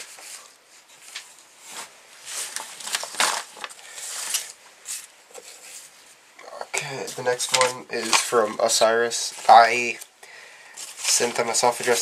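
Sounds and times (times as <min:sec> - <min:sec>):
paper sheets rustling and crinkling: 0:00.0 - 0:06.2, 0:06.8 - 0:10.1, 0:10.8 - 0:12.0.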